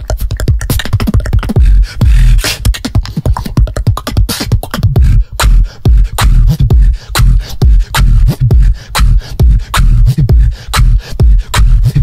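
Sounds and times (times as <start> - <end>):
person beatboxing into a microphone: 0.0 - 12.0.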